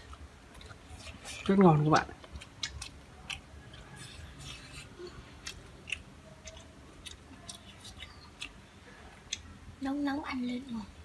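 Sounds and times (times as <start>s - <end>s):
crunchy chewing: 0.0s - 9.6s.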